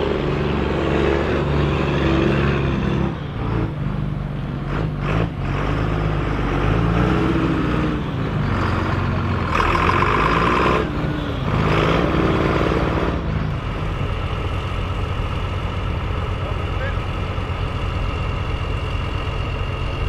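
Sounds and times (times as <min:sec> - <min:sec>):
tractor diesel engine revving: 0:00.0 - 0:20.0.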